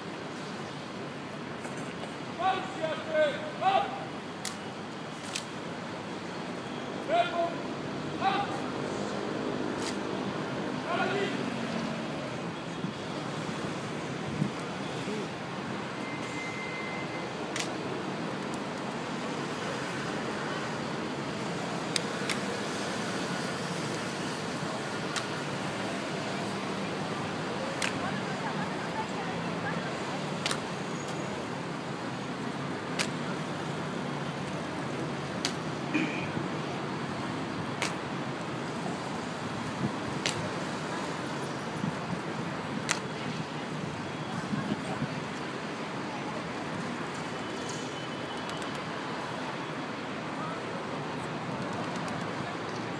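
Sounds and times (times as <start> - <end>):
city traffic: 0.0 - 52.9.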